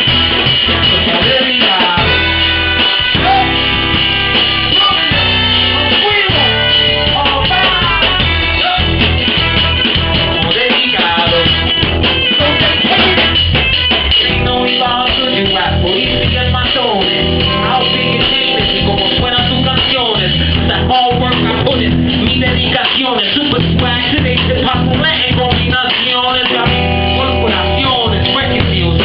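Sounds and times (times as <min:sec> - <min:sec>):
live band playing salsa hip-hop: 0:00.0 - 0:29.0
vocalist singing into microphone: 0:00.0 - 0:29.0.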